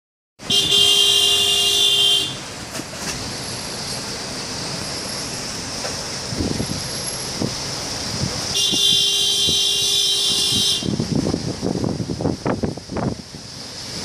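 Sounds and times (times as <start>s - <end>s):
high hiss of wind: 0.4s - 14.0s.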